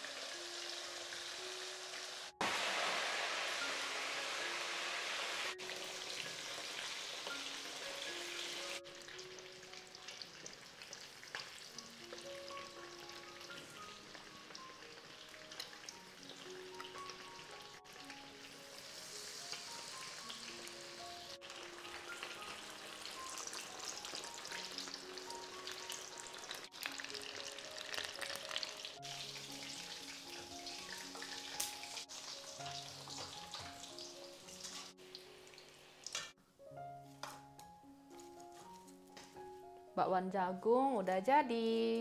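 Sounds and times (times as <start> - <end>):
batter sizzling in hot oil: 0.0 - 36.4
background music melody: 0.0 - 42.0.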